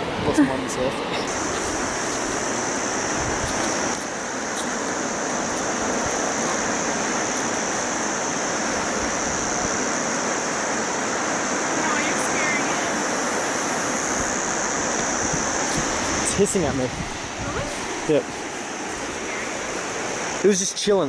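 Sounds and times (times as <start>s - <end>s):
high-pitched drone: 0.0s - 20.5s
waves breaking on a beach: 0.0s - 21.0s.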